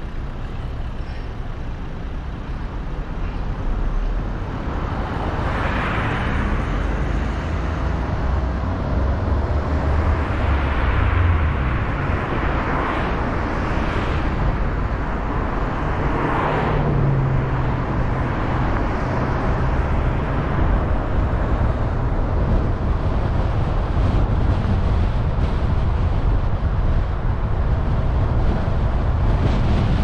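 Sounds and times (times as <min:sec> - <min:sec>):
passing vehicles: 0:00.0 - 0:30.0
tyre and engine rumble: 0:00.0 - 0:30.0.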